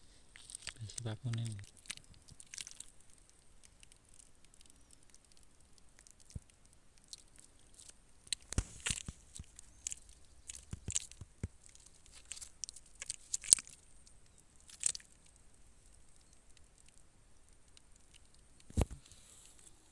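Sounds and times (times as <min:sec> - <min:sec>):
crunching clicks and crackles: 0:00.0 - 0:19.9.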